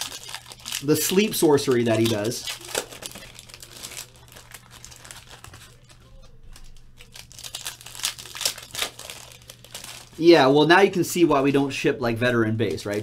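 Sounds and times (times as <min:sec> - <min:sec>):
foil wrappers crinkling and tearing: 0:00.0 - 0:10.6, 0:12.6 - 0:13.0.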